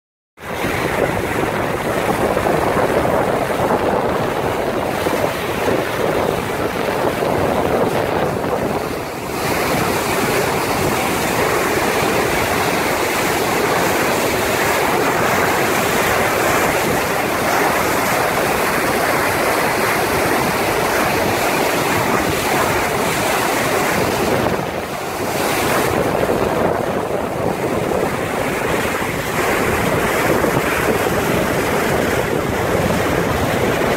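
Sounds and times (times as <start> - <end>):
waves and water: 0.4 - 33.9
wind on microphone: 0.4 - 33.9.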